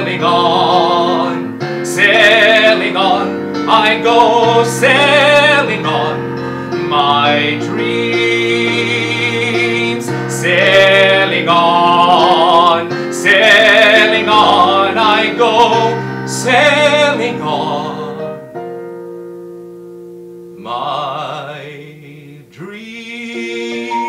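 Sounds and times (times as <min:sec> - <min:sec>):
man singing with vibrato: 0:00.0 - 0:18.5, 0:20.5 - 0:24.0
sustained instrumental chords: 0:00.0 - 0:22.2.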